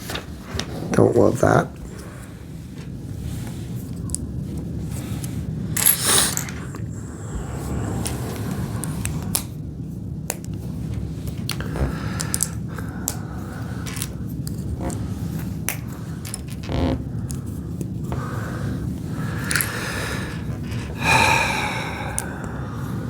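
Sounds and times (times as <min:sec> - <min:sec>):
steady low hum: 0:00.5 - 0:16.2, 0:17.0 - 0:23.0.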